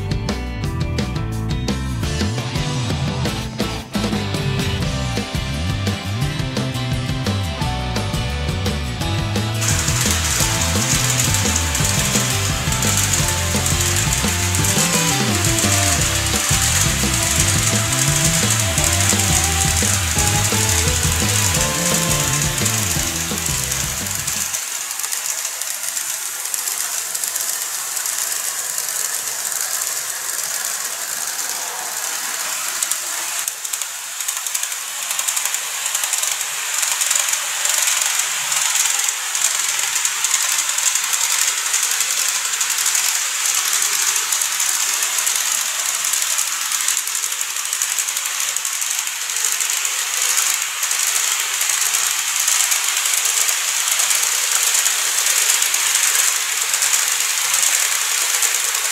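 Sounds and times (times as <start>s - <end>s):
model train running on track: 1.9s - 58.9s.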